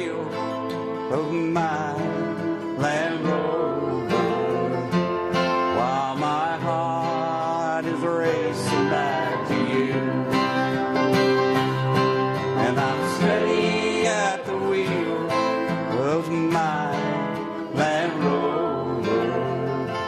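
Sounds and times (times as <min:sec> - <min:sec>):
country song with acoustic guitar: 0:00.0 - 0:20.0.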